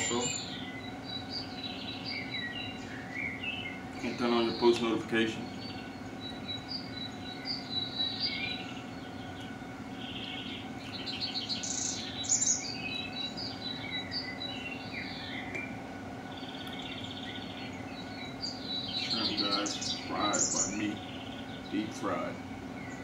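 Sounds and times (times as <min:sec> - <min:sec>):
birds chirping and trilling: 0:00.0 - 0:23.0
steady low hum: 0:00.0 - 0:23.0.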